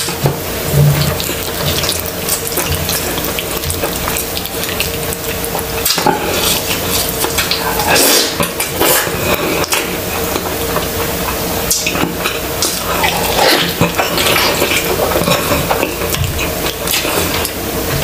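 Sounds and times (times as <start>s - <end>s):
food crackling: 0.0s - 18.0s
wet chewing and lip smacking: 0.9s - 17.7s.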